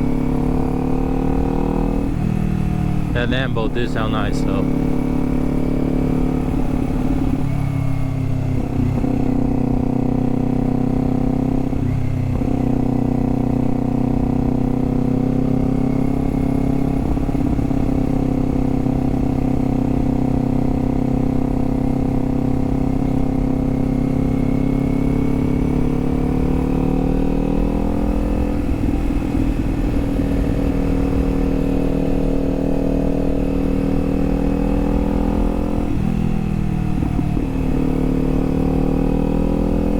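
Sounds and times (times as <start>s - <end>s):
motorcycle engine at road speed: 0.0s - 39.9s.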